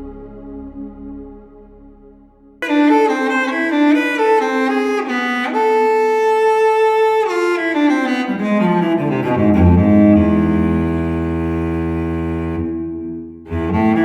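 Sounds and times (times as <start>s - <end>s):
bowed strings music: 0.0s - 14.0s.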